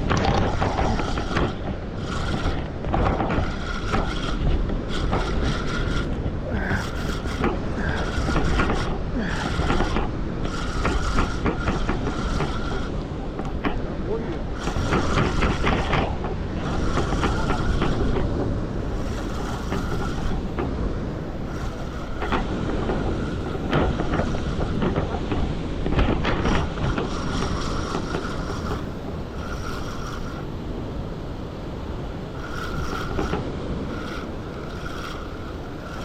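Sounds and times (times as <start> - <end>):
wind buffeting microphone: 0.0 - 36.0
fishing reel whirring: 0.1 - 24.9, 26.2 - 36.0.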